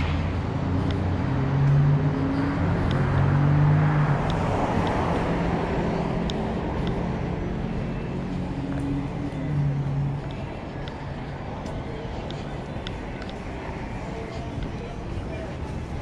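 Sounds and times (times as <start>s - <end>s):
car passing: 0.0s - 16.0s
low engine hum: 0.0s - 16.0s.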